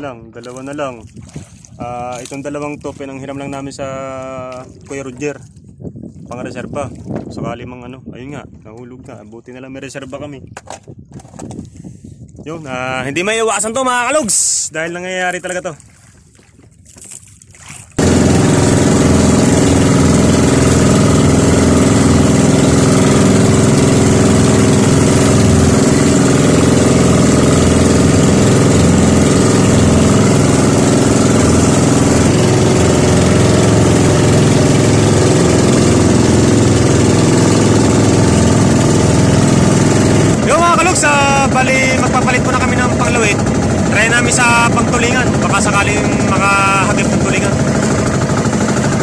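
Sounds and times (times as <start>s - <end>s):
boat engine running: 0.0s - 11.6s, 12.4s - 49.0s.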